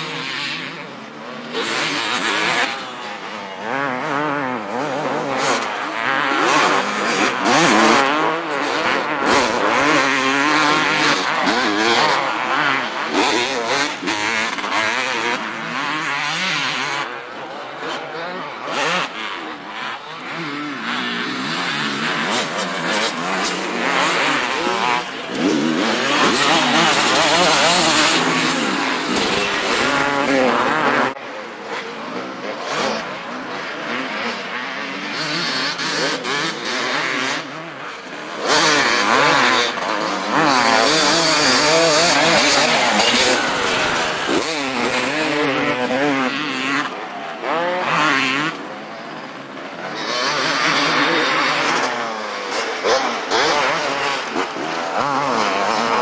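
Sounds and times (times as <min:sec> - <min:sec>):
motocross bikes revving: 0:00.0 - 0:56.0.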